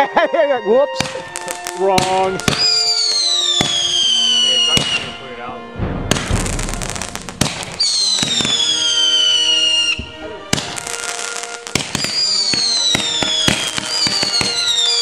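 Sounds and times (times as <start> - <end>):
fireworks crackling pops: 1.0 - 5.2, 5.9 - 15.0
whistling fireworks: 1.0 - 5.3, 6.1 - 15.0.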